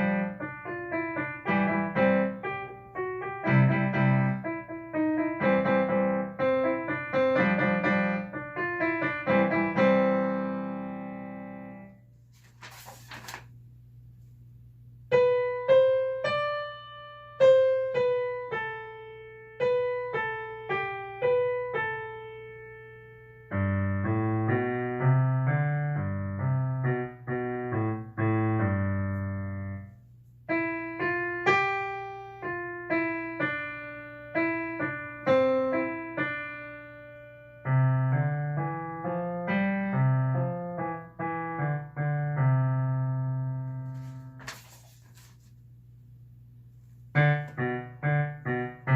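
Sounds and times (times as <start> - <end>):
piano piece: 0.0 - 12.0, 15.1 - 29.9, 30.5 - 45.3, 47.0 - 48.9.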